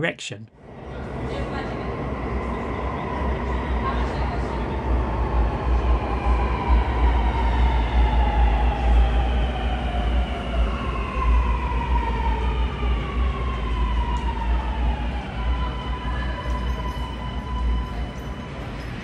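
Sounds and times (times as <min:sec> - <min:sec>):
train deep rumble: 0:00.6 - 0:19.0.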